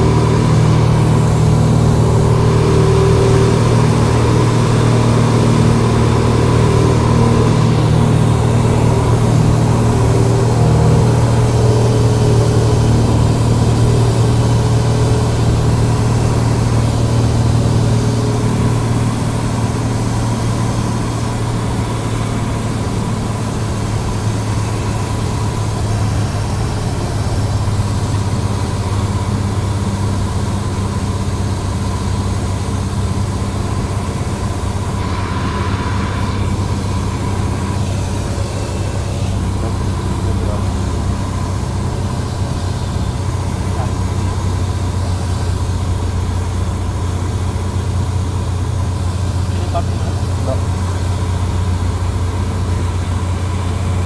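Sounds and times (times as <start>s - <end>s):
airplane engine and propeller: 0.0s - 54.0s.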